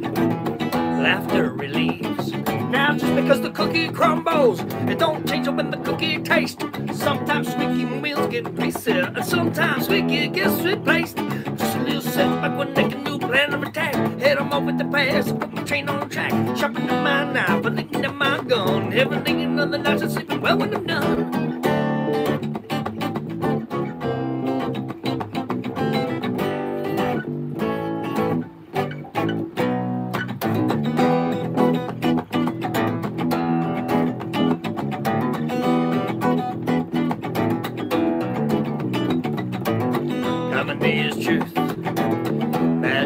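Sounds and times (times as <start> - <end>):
acoustic guitar strumming: 0.0 - 43.0
bass guitar: 0.0 - 43.0.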